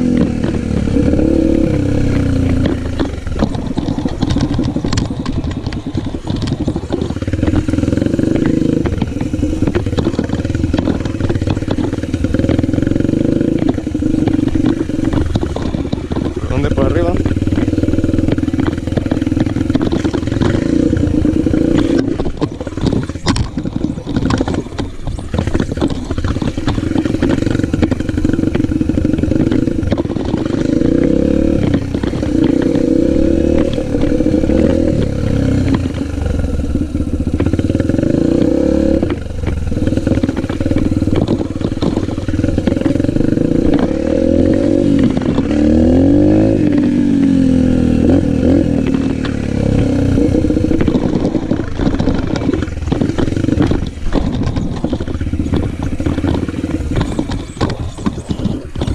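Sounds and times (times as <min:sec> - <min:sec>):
motocross bike engine: 0:00.0 - 0:58.9.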